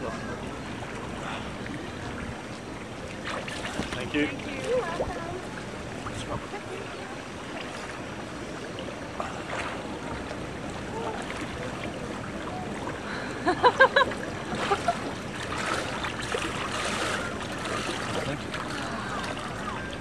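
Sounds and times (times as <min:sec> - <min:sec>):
pool water lapping and sloshing: 0:00.0 - 0:20.0.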